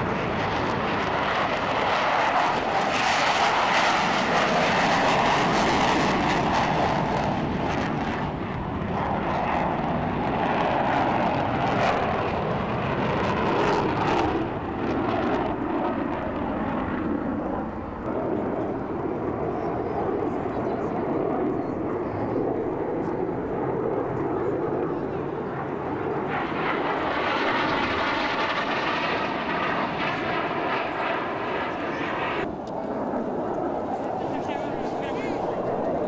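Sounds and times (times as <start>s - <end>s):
fighter jets flying past overhead: 0.0s - 36.0s.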